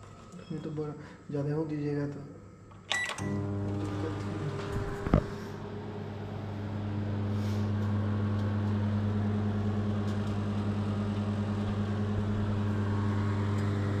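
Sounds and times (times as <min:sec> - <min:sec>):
microwave oven humming: 0:02.6 - 0:14.0.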